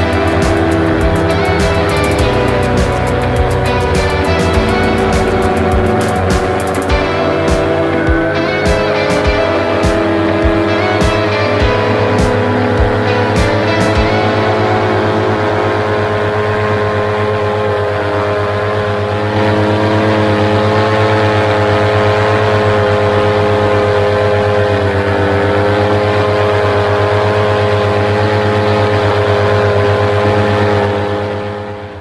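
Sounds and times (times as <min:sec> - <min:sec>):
paramotor engine and propeller: 0:00.0 - 0:32.0.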